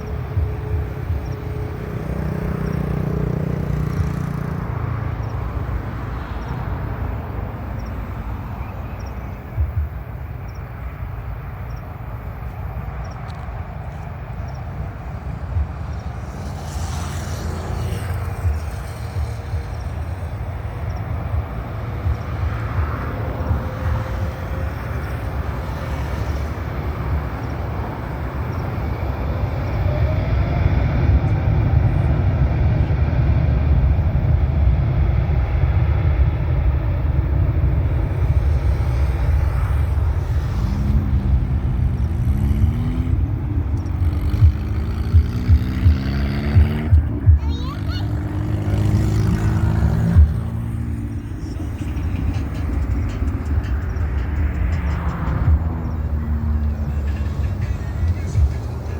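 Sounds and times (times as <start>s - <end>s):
jet engines rumbling: 0.0s - 58.9s.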